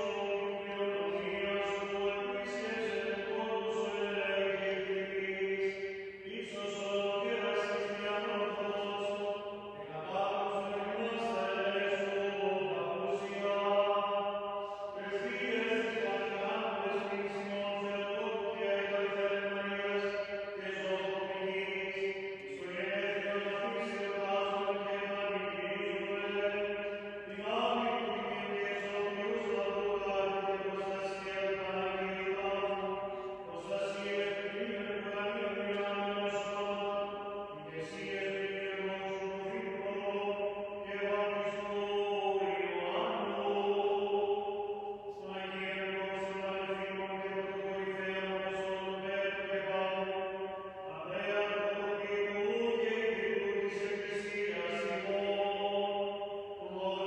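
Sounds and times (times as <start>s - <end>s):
man chanting long notes: 0.0s - 57.0s.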